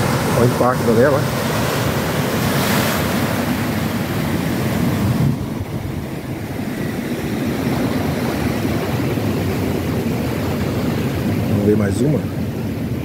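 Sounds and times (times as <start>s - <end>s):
ocean surf splashing on pilings: 0.0s - 13.0s.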